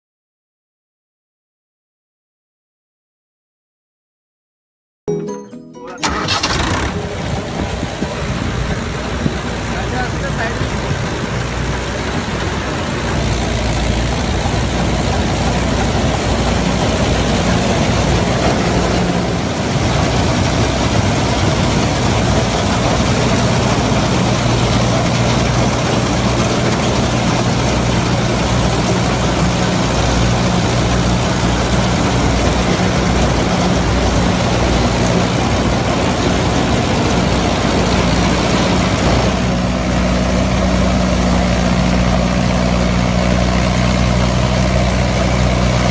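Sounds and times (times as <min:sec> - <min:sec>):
heavy diesel engine running: 0:06.0 - 0:45.9.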